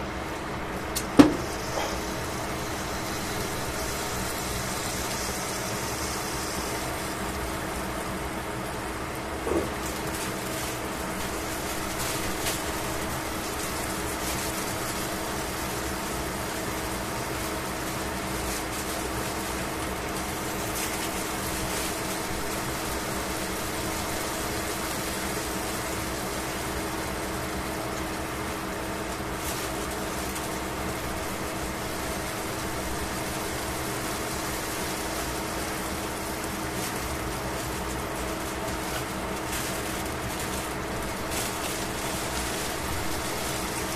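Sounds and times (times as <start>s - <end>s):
pork sizzling in frying pan: 0.0s - 43.9s.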